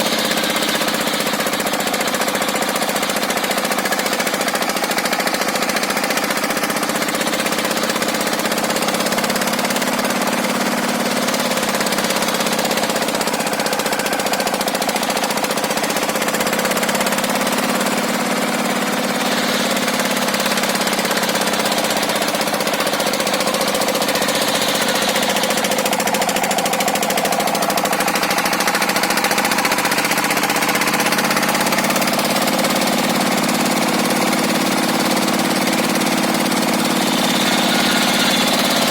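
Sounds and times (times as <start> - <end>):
circular saw cutting timber: 0.0 - 38.9.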